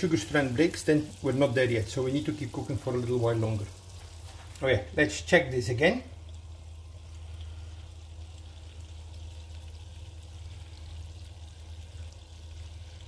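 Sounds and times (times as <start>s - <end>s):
constant low hum: 0.0s - 13.0s
syrup boiling in a saucepan: 0.0s - 13.0s.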